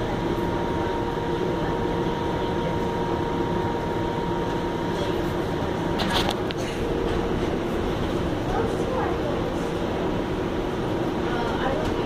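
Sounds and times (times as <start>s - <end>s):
streetcar equipment hum: 0.0s - 12.0s.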